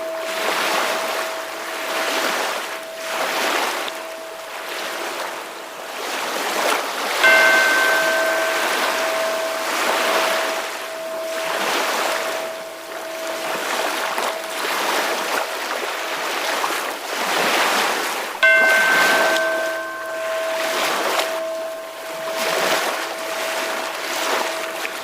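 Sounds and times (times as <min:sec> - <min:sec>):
ocean waves washing in: 0:00.0 - 0:25.0
ringing bell-like tone: 0:00.0 - 0:25.0.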